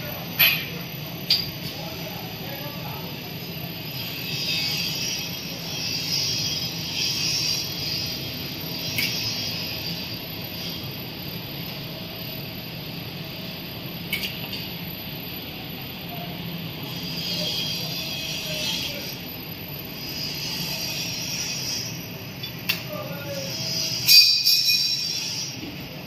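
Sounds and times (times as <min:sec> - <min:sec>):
machine humming and hissing: 0:00.0 - 0:26.0.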